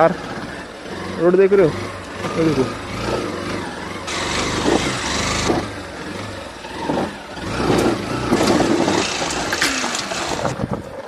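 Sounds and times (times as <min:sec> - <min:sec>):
motorcycle engine climbing: 0:00.0 - 0:11.0.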